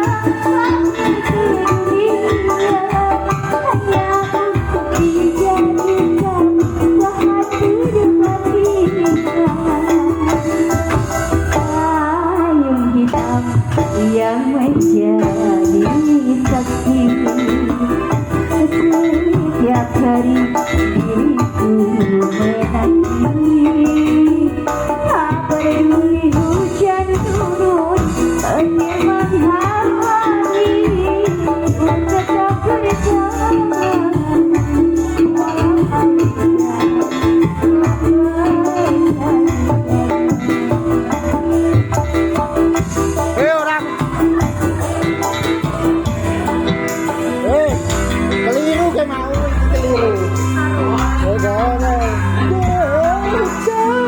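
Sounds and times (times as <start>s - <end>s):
hand drums: 0.0s - 54.0s
person singing: 0.0s - 54.0s
plucked string melody: 0.0s - 54.0s
song with steady beat and bass line: 0.0s - 54.0s.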